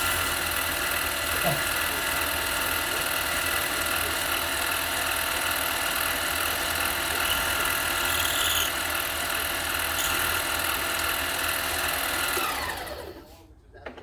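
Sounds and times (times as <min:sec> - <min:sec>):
lathe motor whining: 0:00.0 - 0:13.2.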